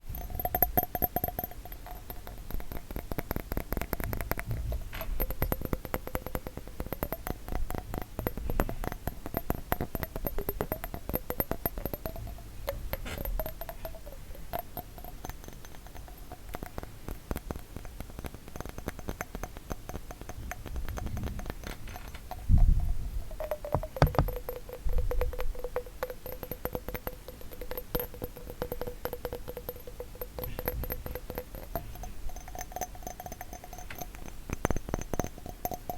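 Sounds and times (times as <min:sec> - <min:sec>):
tapping on glass bottle: 0:00.0 - 0:35.9.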